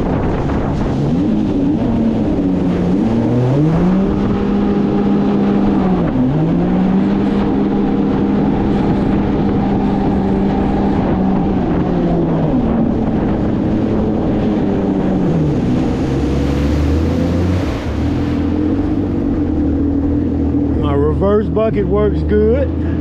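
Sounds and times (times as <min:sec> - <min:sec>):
watercraft engine running: 0:00.0 - 0:23.0.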